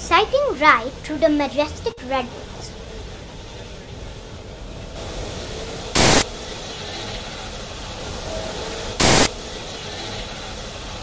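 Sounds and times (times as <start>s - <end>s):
loud steam hiss bursts: 0.0s - 11.0s
steam train rumbling: 0.0s - 11.0s.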